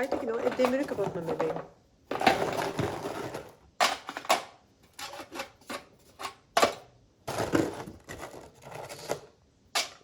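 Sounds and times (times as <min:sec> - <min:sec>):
stones scraping on metal tray: 0:00.0 - 0:10.0.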